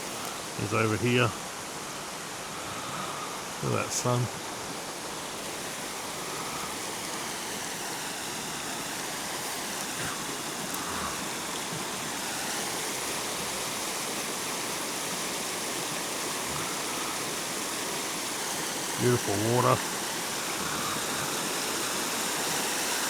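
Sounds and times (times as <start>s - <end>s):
water rushing over waterfall: 0.0s - 23.0s.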